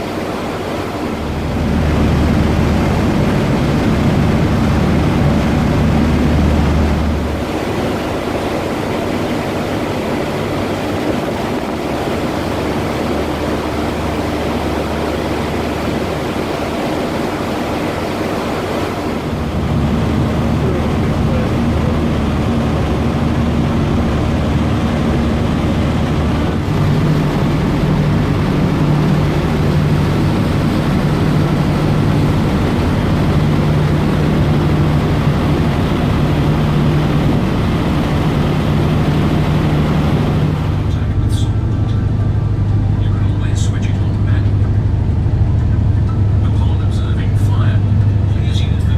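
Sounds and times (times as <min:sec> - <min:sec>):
ferry engines droning: 0:00.0 - 0:48.9
rushing water: 0:00.0 - 0:48.9
wind: 0:00.0 - 0:48.9.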